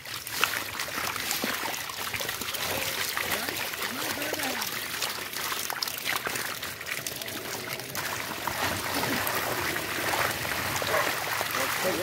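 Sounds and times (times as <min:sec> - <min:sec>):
fish flapping and splashing: 0:00.0 - 0:12.0
water trickling and pouring: 0:00.0 - 0:12.0.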